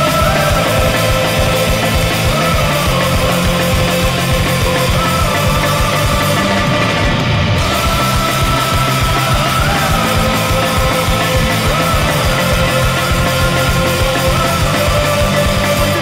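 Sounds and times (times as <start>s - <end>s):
heavy rock music: 0.0s - 16.0s
pounding drum beat: 0.0s - 16.0s.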